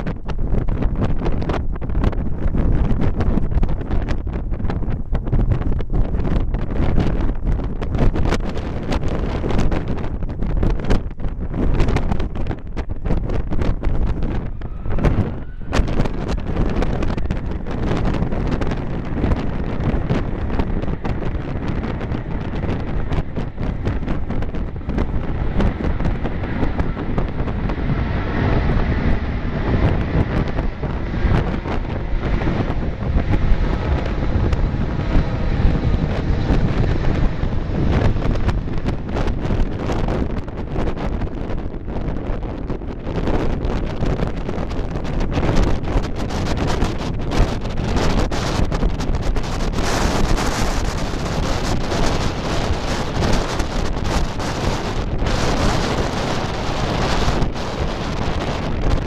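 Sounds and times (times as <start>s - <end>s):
jet engines on takeoff: 0.0s - 59.0s
wind buffeting microphone: 0.0s - 59.0s.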